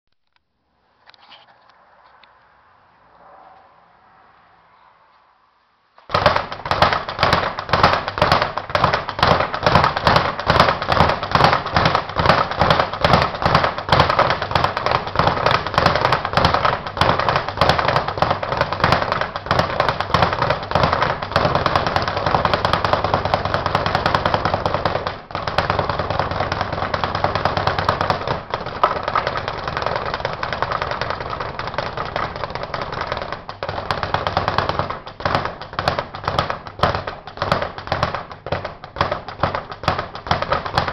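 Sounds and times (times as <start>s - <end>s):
speed bag rattling: 6.1s - 40.9s.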